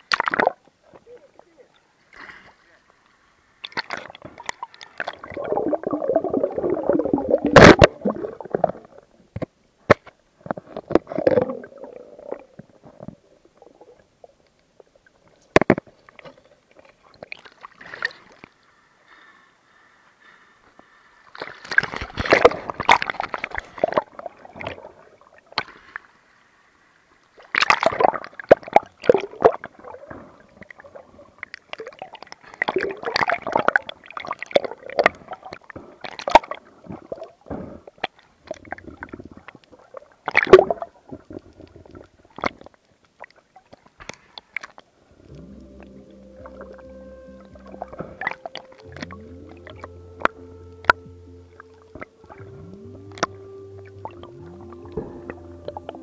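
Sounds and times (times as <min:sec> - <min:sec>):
water sloshing and gurgling: 0:03.6 - 0:18.6, 0:21.2 - 0:26.3, 0:27.3 - 0:56.0.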